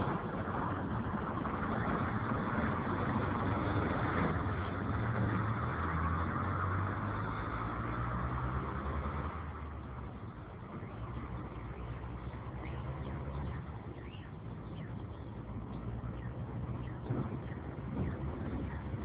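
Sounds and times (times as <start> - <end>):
continuous rushing noise: 0.0 - 19.0
engine humming: 0.0 - 19.0.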